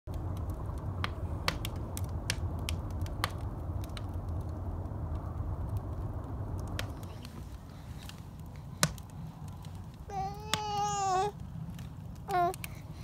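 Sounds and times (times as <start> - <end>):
wood fire popping and crackling: 0.1 - 13.0.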